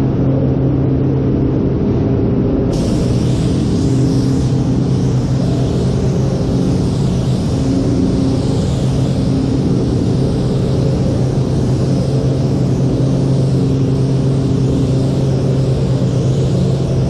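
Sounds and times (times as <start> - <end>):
low mechanical hum: 0.0 - 17.0
spray gun hissing: 2.7 - 17.0.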